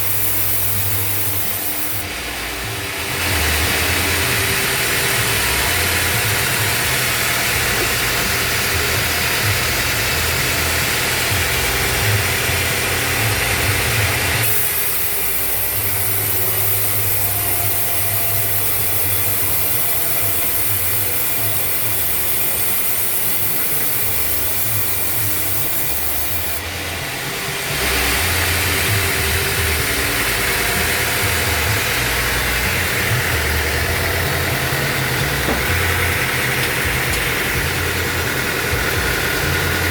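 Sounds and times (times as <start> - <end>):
motor hum: 0.0 - 39.9
saw blade cutting wood: 0.0 - 39.9.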